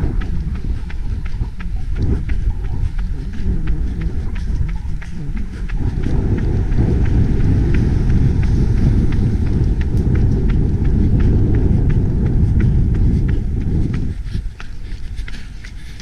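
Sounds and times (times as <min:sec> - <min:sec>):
running footsteps: 0:00.0 - 0:16.0
wind buffeting microphone: 0:00.0 - 0:16.0.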